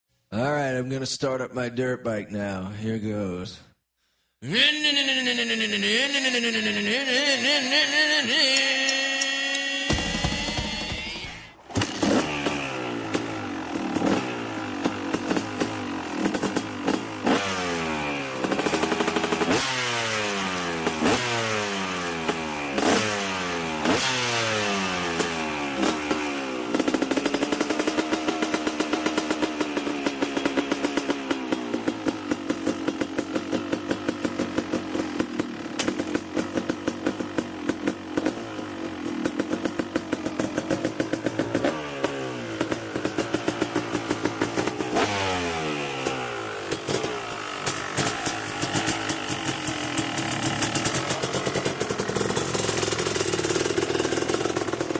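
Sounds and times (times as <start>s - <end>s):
two-stroke dirt bike engine revving: 4.8s - 54.9s.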